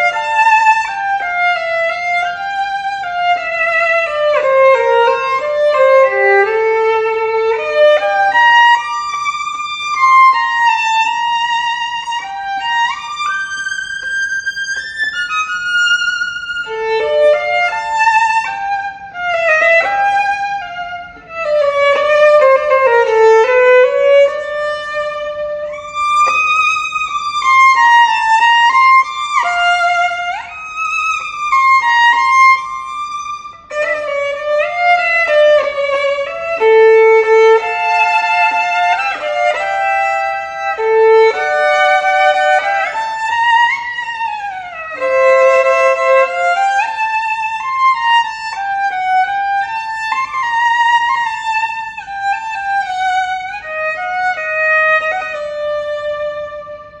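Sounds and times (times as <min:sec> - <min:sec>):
solo violin melody: 0:00.0 - 0:57.0.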